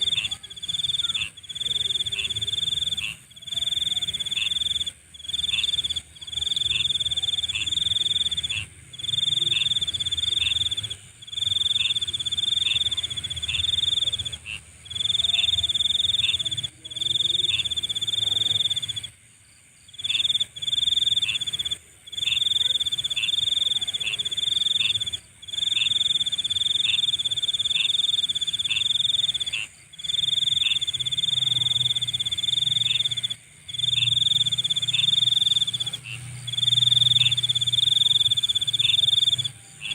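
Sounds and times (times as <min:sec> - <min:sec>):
faint high insect chorus: 0:00.0 - 0:39.9
loud high cricket trill: 0:00.0 - 0:39.9.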